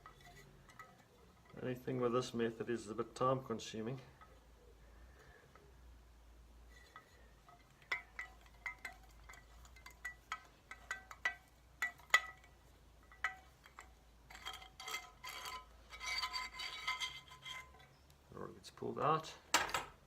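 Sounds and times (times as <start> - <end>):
threaded rod clinking metallically: 0.0 - 4.7, 6.7 - 18.2.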